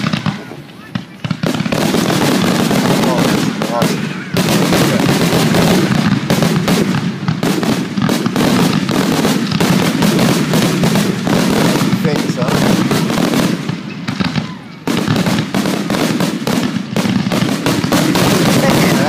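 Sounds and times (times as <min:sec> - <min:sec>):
fireworks crackling pops: 0:00.0 - 0:19.0.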